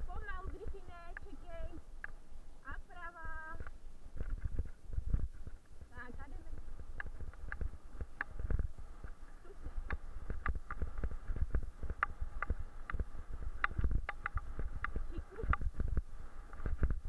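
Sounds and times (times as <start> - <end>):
low rumble of bumps and wind: 0.0 - 17.0.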